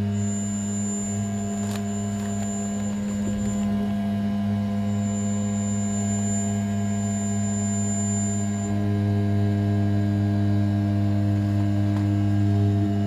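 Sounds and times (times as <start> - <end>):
faint high whine: 0.0 - 13.0
lower tone: 0.0 - 13.0
router spindle humming drone: 0.0 - 13.0.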